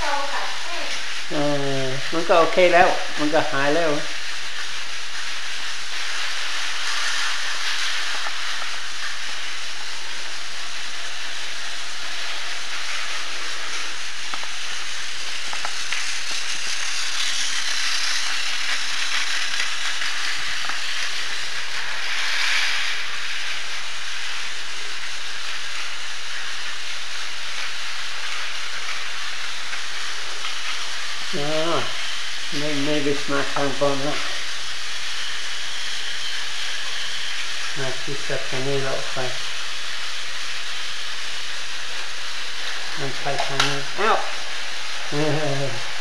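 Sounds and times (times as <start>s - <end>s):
toy trains whirring on track: 0.0s - 46.0s.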